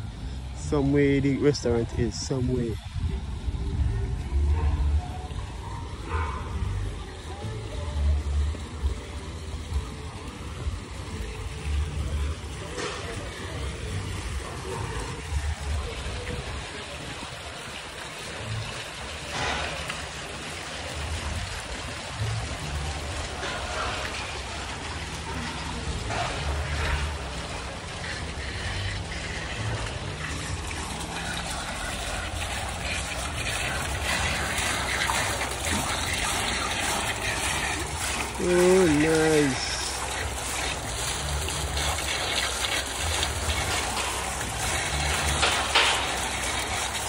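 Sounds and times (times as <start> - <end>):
fountain water splashing: 0.0 - 47.0.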